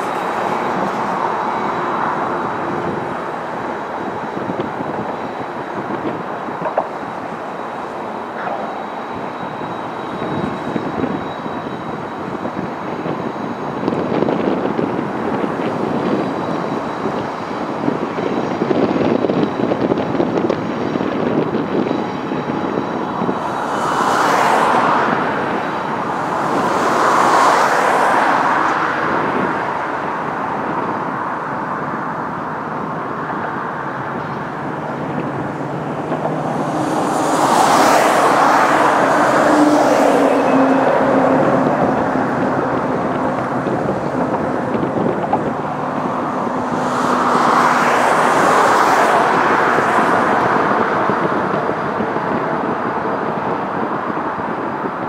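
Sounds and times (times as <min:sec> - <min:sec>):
steady traffic noise: 0:00.0 - 0:55.0
vehicles swishing past: 0:00.0 - 0:55.0
wind: 0:00.0 - 0:55.0.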